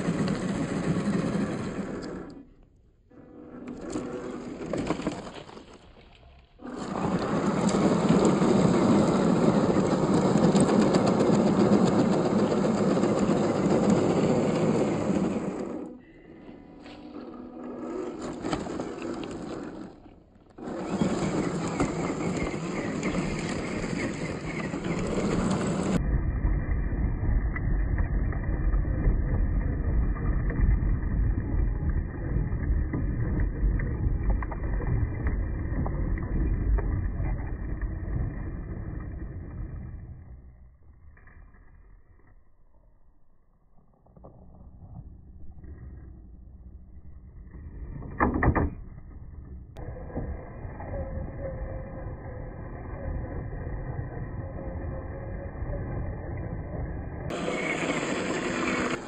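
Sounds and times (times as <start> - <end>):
rc car driving off-road: 0.0 - 59.0.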